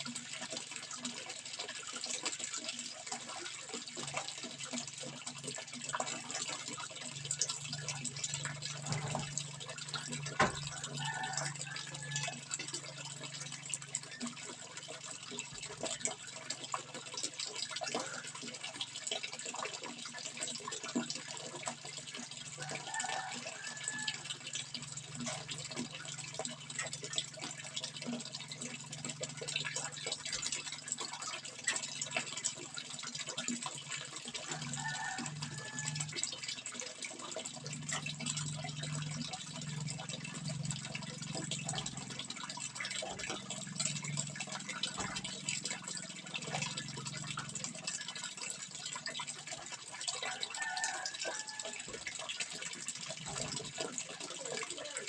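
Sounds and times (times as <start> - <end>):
small water splashes: 0.0 - 55.0
water flowing: 0.0 - 55.0
water gurgling: 0.0 - 55.0.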